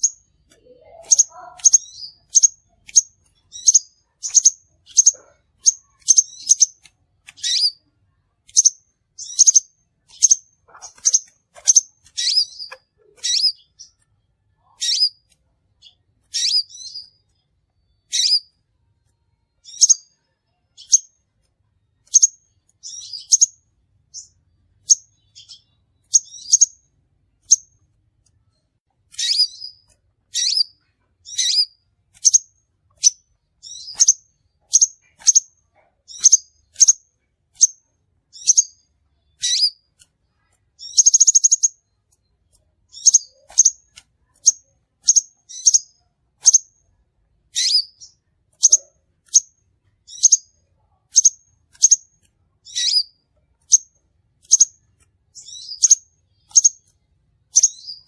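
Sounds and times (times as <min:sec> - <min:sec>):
bird chirping high-pitched: 0:00.0 - 0:18.6, 0:19.5 - 0:21.3, 0:21.9 - 0:27.9, 0:29.1 - 0:46.9, 0:47.5 - 0:58.0.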